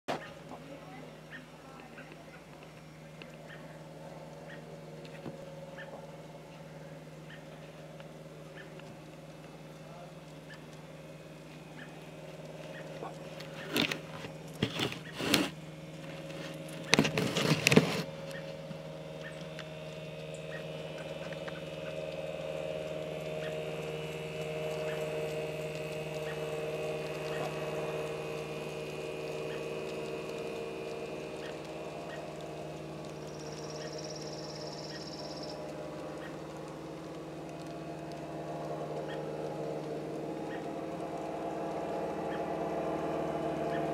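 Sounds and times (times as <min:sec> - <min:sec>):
wheels clicking over track: 0:00.1 - 0:43.9
model train motor humming: 0:00.2 - 0:43.9.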